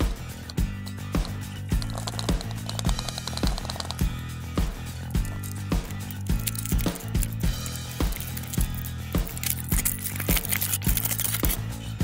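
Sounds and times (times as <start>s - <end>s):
drum beat: 0.0s - 10.6s
held bass notes: 0.0s - 12.0s.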